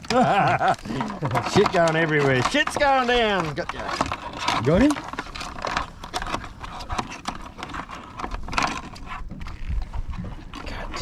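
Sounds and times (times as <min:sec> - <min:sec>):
handling on plastic board: 0:00.0 - 0:11.0.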